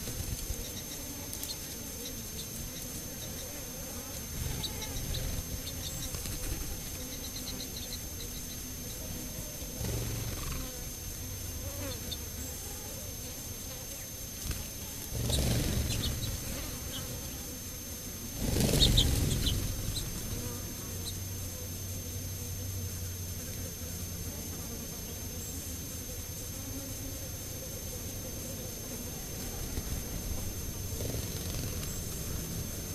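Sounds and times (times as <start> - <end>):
flying insects buzzing: 0.0 - 32.9.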